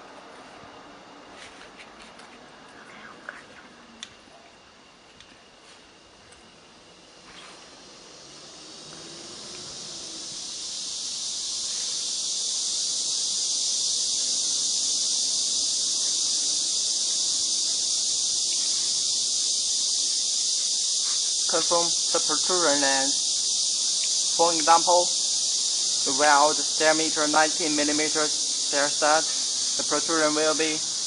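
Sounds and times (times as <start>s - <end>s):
high-pitched hiss: 0.0s - 31.0s.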